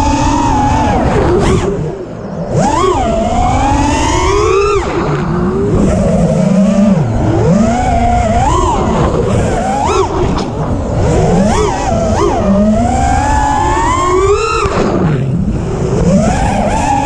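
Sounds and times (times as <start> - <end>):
drone motors whining: 0.0 - 17.0
steady rushing noise: 0.0 - 17.0.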